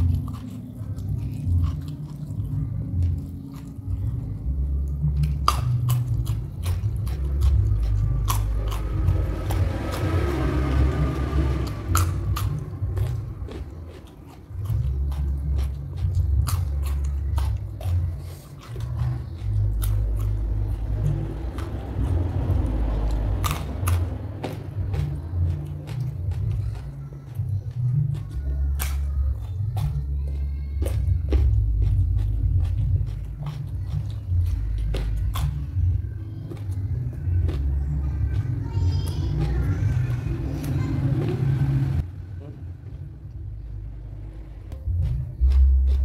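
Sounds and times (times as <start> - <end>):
crunchy chewing of raw vegetables: 0.0 - 42.0, 43.8 - 46.0
low rumble: 0.0 - 46.0.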